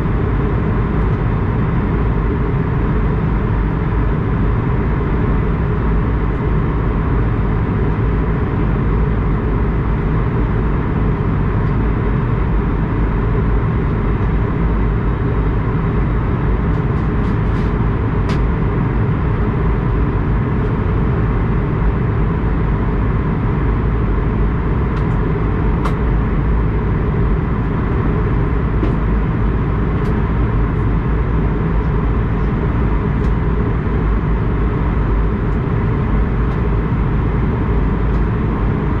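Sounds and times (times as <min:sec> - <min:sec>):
aircraft engine rumble: 0:00.0 - 0:39.0.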